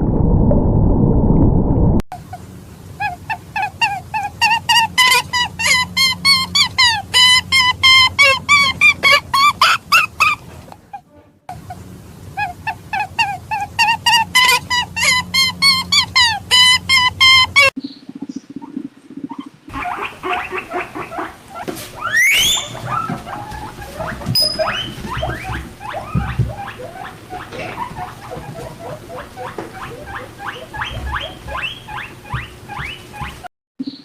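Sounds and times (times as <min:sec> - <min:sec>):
guinea pig squeaking: 0:03.0 - 0:11.8, 0:12.4 - 0:34.0.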